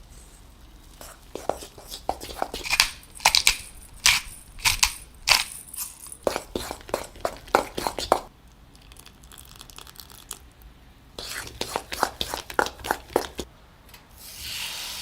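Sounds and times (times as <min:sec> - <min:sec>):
utensil crunching food: 0:00.6 - 0:10.5, 0:11.2 - 0:13.5.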